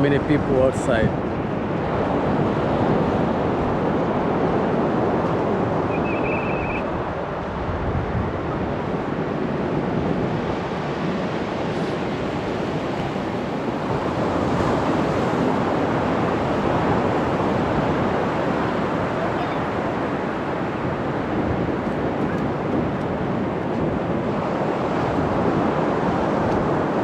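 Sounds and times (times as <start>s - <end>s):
ocean surf washing onto beach: 0.0s - 6.1s, 6.8s - 27.0s
wind on microphone: 0.0s - 27.0s.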